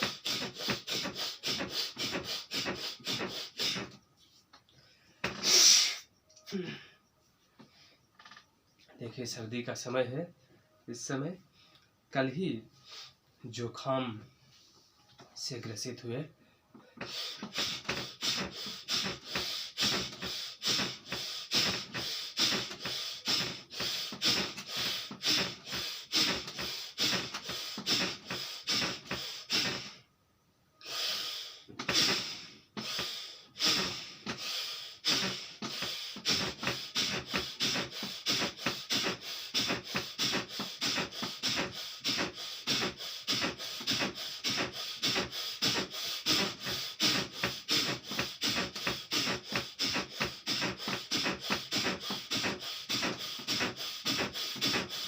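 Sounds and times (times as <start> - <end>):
rapid forceful breathing through nose: 0.0 - 6.7, 12.7 - 13.3, 16.9 - 30.1, 30.8 - 55.0.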